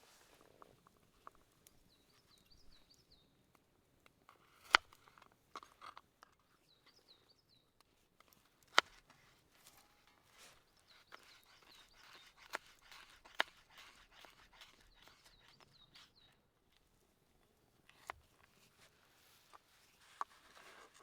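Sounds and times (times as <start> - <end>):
woodland background: 0.0 - 21.0.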